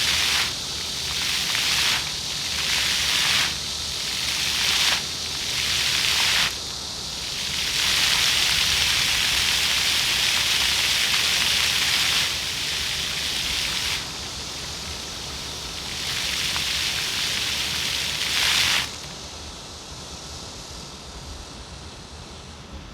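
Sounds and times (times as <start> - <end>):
fountain jets splashing on pavement: 0.0 - 19.2.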